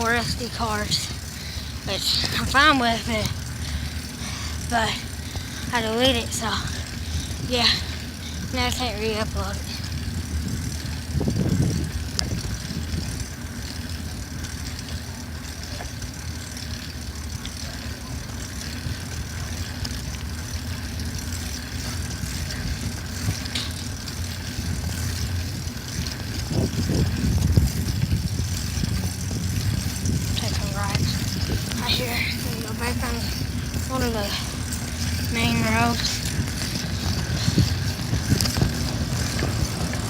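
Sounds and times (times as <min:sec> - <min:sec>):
wind rumble on microphone: 0:00.0 - 0:14.9, 0:18.0 - 0:40.0
bicycle road noise: 0:00.0 - 0:40.0.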